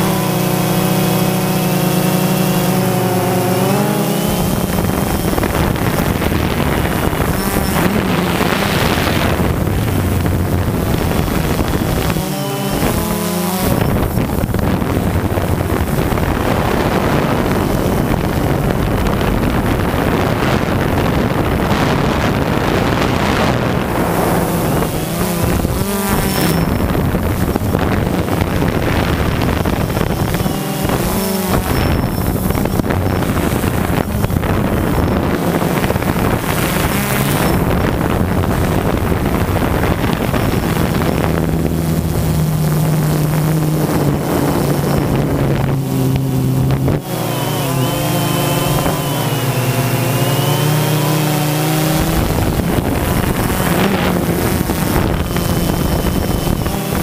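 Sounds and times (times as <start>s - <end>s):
drone motors and propellers: 0.0s - 57.0s
wind noise on microphone: 0.0s - 57.0s.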